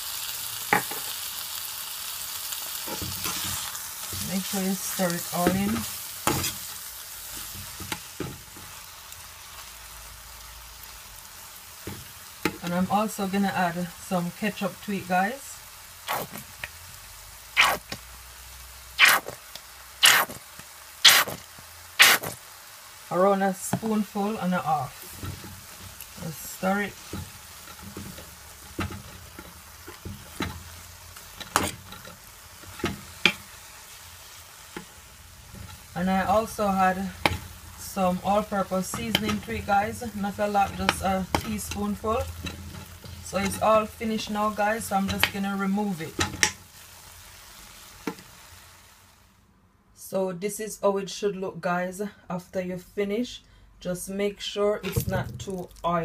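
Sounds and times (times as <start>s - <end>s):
meat sizzling in oil: 0.0s - 49.4s.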